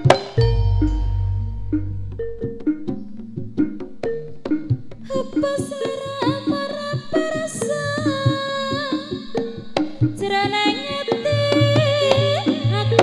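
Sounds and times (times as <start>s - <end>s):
bending melodic line: 0.0s - 13.0s.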